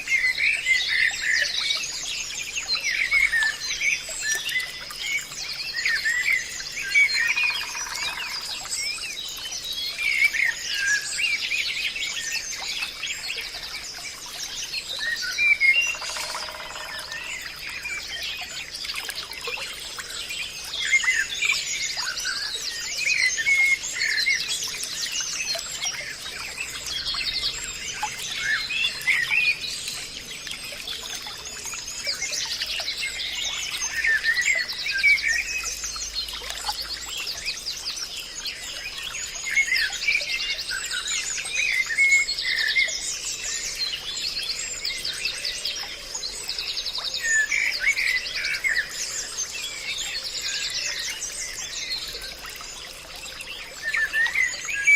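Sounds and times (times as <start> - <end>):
birds singing with trills and chirps: 0.0 - 54.9.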